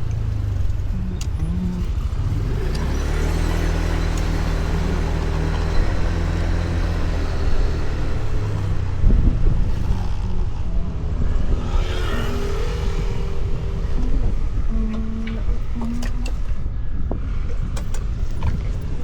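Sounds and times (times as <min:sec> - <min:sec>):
motor scooter engine running: 0:00.0 - 0:16.8.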